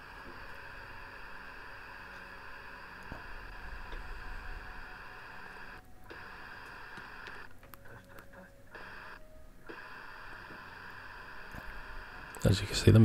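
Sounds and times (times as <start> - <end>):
radio speaker static hiss: 0.0 - 13.0.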